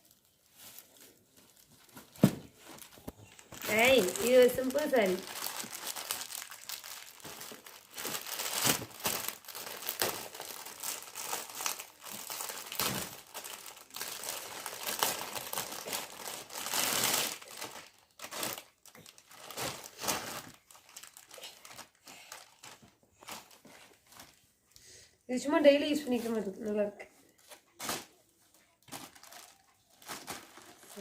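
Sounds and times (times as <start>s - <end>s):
paper and plastic crinkling: 0.0s - 24.5s, 25.9s - 31.0s.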